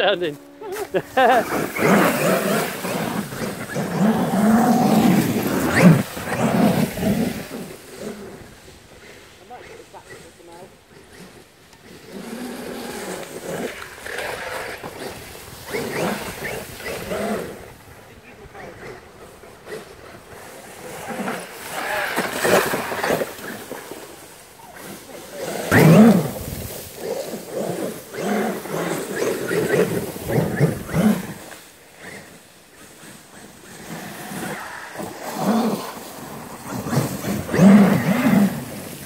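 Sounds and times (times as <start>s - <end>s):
electric motor revving: 0.0s - 17.9s, 18.6s - 39.0s
tyres spinning in loose dirt: 0.8s - 9.6s, 10.3s - 39.0s.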